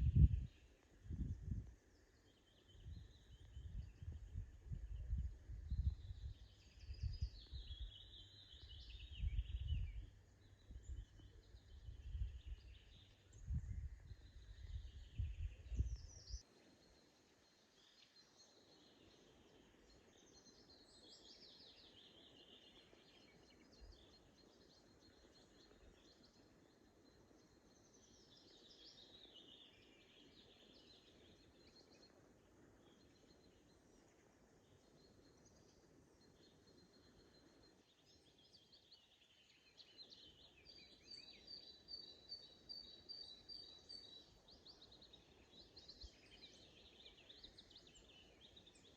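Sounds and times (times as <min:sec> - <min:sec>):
soft steady hiss: 0:00.0 - 0:48.9
wild birds singing: 0:00.0 - 0:48.9.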